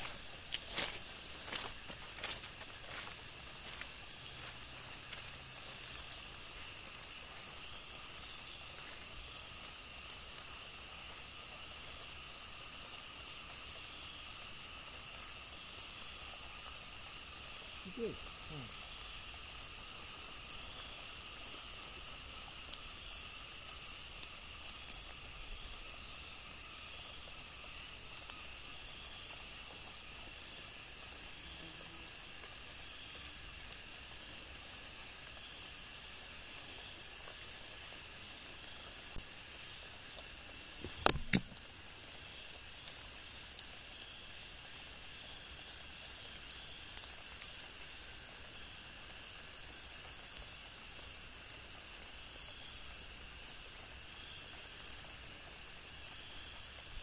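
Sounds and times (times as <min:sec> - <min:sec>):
insects droning at night: 0:00.0 - 0:57.0.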